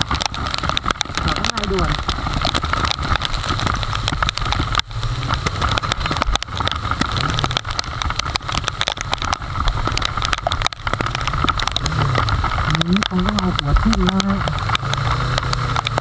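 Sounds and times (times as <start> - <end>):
motorcycle engine running: 0.0 - 16.0
raindrops tapping on camera: 0.0 - 16.0
road noise: 0.0 - 16.0.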